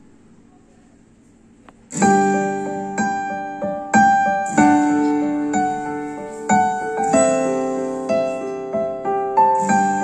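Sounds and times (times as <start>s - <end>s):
keyboard chords ringing: 1.9s - 10.0s.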